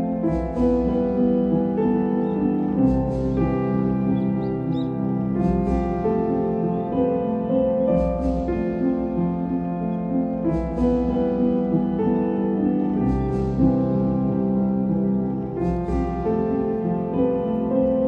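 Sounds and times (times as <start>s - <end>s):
calm instrumental music: 0.0s - 18.0s.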